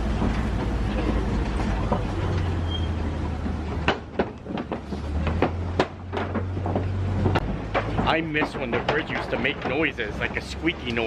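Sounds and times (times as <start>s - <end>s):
truck engine running: 0.0s - 11.0s
truck knocking over bridge: 0.0s - 11.0s.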